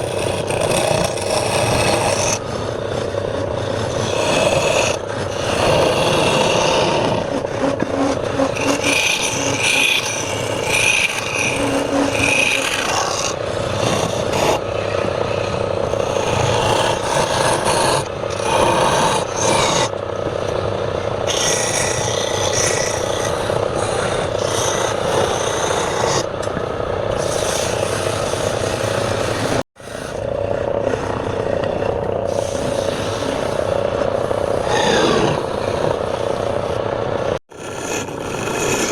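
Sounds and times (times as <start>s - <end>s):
tool scraping spinning wood: 0.0s - 38.9s
wood lathe humming: 0.0s - 38.9s.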